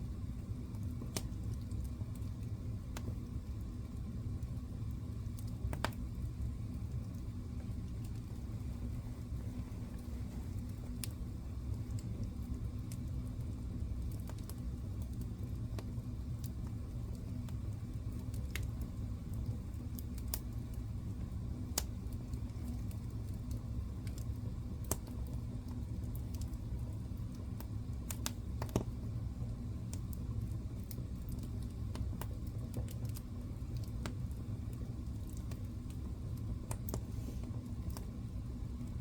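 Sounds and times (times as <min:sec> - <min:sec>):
fire crackling in fireplace: 0:00.0 - 0:39.0.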